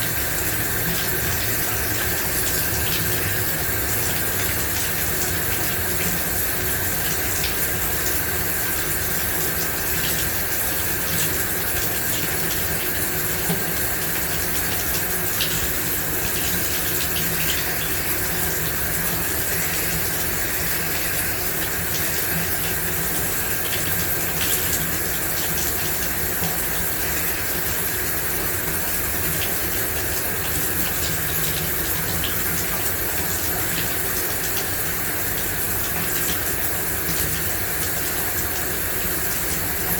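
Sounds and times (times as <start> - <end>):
water drips and splashes: 0.0 - 39.9.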